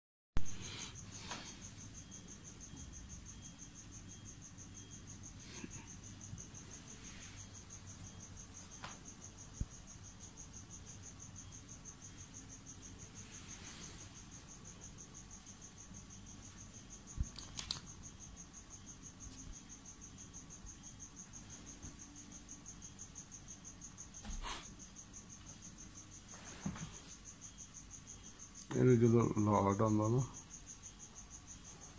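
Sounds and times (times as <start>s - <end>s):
cricket chirping: 0.4s - 31.9s.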